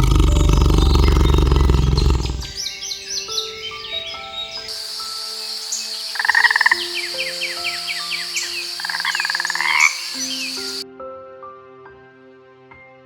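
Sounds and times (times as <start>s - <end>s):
birds chirping: 0.0s - 10.8s
high insect-like drone: 0.0s - 10.8s
rapid rattling calls: 0.0s - 10.8s
soft background music: 0.0s - 13.0s.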